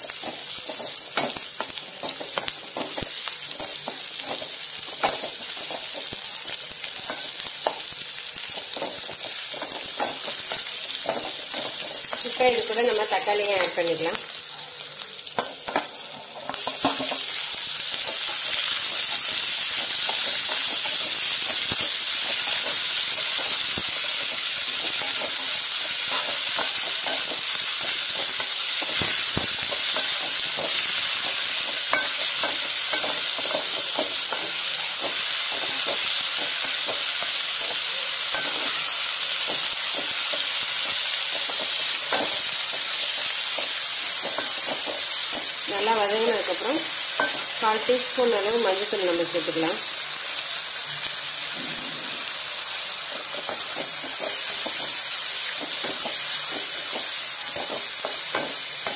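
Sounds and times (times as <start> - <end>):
vegetables sizzling in hot oil: 0.0 - 58.9.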